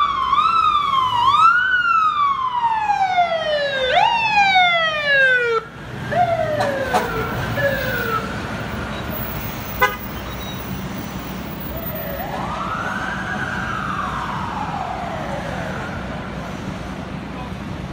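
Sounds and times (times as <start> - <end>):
emergency vehicle sirens: 0.0 - 17.9
traffic rumble: 0.0 - 17.9.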